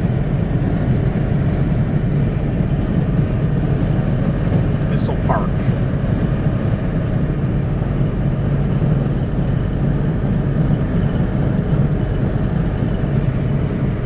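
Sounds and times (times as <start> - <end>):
engine and road noise inside vehicle: 0.0 - 14.0.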